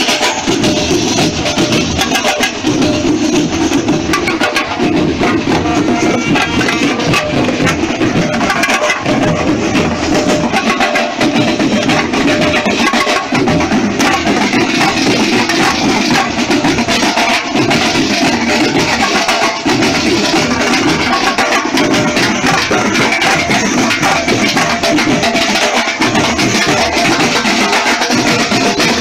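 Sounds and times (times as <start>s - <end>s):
marching drum line playing: 0.0s - 29.0s.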